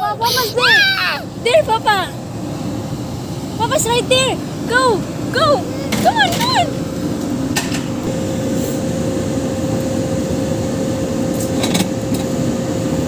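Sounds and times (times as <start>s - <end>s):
train mechanical drone and whine: 0.0s - 13.0s.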